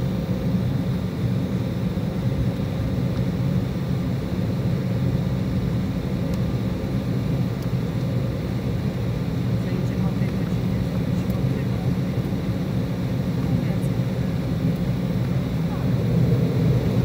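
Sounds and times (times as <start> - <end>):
jet cabin low rumble: 0.0 - 17.0.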